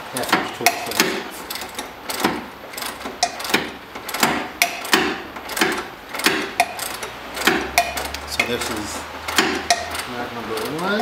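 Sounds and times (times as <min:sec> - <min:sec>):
socket ratchet clicking: 0:00.6 - 0:10.9.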